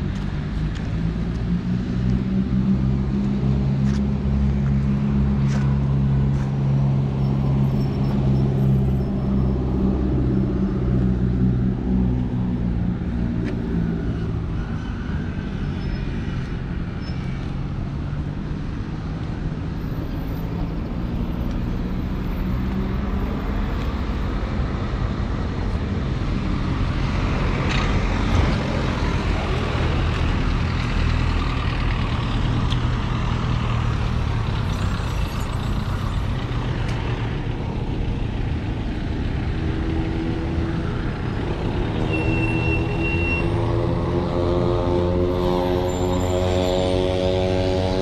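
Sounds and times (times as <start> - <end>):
street traffic rumble: 0.0 - 48.0.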